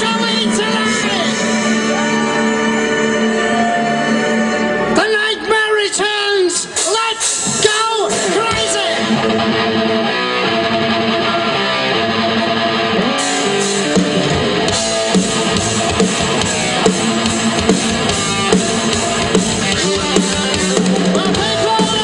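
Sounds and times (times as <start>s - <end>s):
electric guitar: 0.0s - 5.0s, 6.6s - 22.0s.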